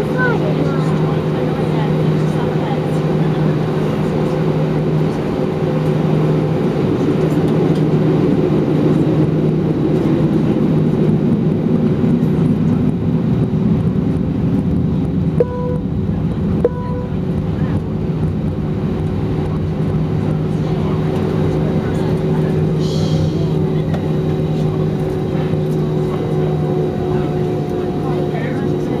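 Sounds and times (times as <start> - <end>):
jet engines droning: 0.0 - 29.0.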